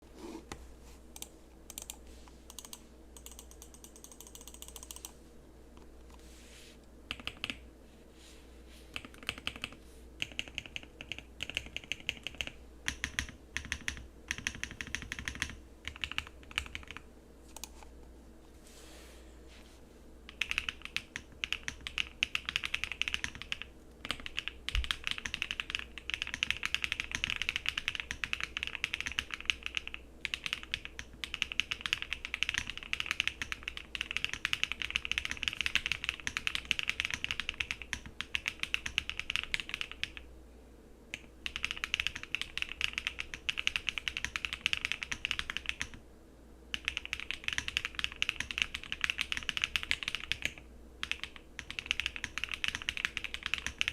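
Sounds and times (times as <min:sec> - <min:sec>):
mechanical keyboard typing: 0:01.2 - 0:05.1, 0:07.1 - 0:07.6, 0:09.0 - 0:17.0, 0:20.3 - 0:40.2, 0:41.1 - 0:46.0, 0:46.7 - 0:53.9.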